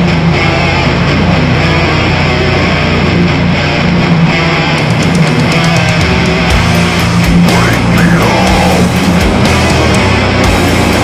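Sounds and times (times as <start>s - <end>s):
hard rock music: 0.0s - 11.0s.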